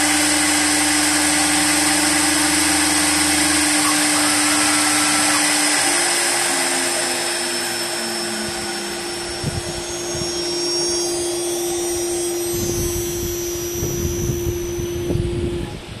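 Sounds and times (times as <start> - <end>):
stepped falling tones: 0.0 - 15.8
lathe motor hum and whine: 0.0 - 16.0.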